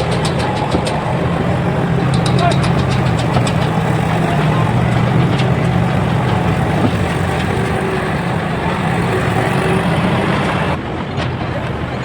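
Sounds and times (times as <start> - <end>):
large engine humming: 0.0 - 12.0.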